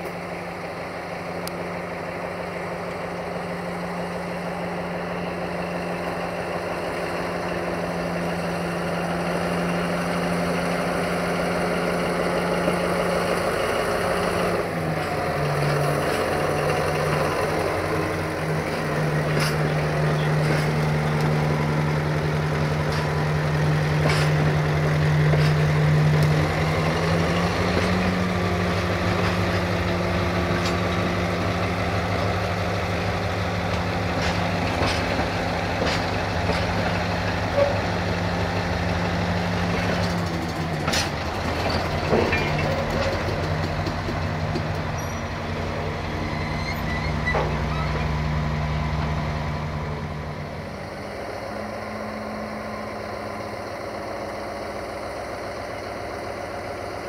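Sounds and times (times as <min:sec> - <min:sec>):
diesel locomotive engine hum: 0:00.0 - 0:57.0
rolling rumble of train: 0:00.0 - 0:57.0
train wheels clicking on rail joints: 0:00.0 - 0:57.0.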